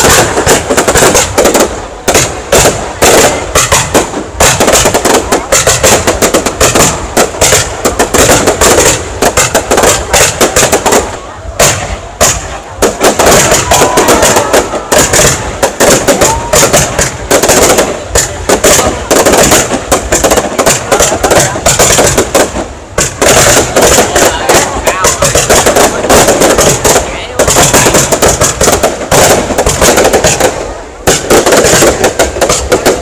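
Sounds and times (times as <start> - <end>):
fireworks shells bursting: 0.0 - 33.0.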